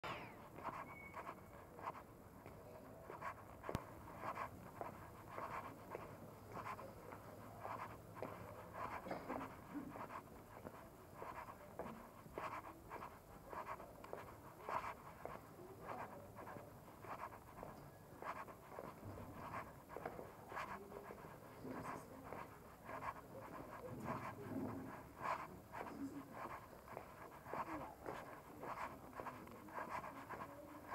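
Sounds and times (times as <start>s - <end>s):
footsteps on cobblestones: 0.5s - 30.9s.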